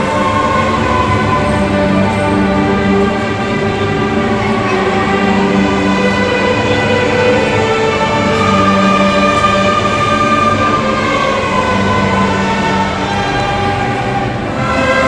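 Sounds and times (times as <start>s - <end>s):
string orchestra playing slow chords: 0.0s - 15.0s.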